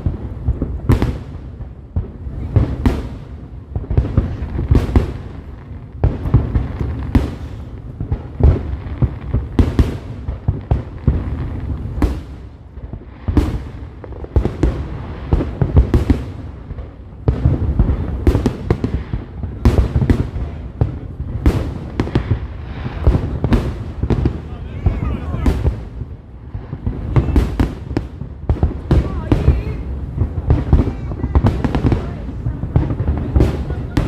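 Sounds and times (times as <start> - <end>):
fireworks bangs and crackling: 0.0 - 34.0.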